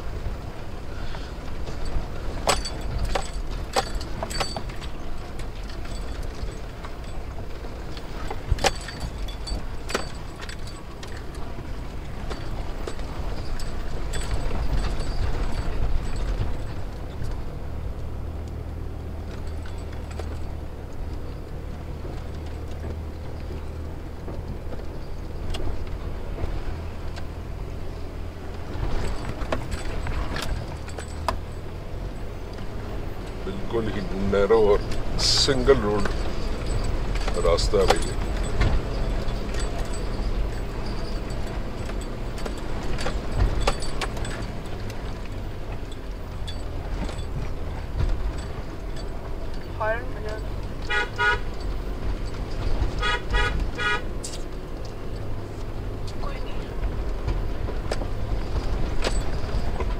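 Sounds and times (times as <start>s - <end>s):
car engine droning: 0.0s - 59.9s
car knocks and rattles from bumps: 0.0s - 59.9s.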